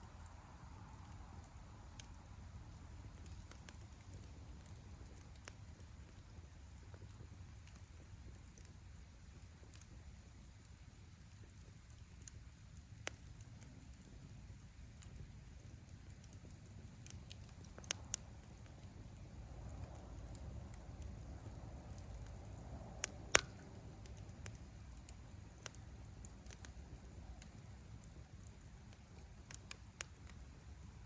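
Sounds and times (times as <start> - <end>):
campfire crackling: 0.0 - 31.0
low rumble of flames: 0.0 - 31.0.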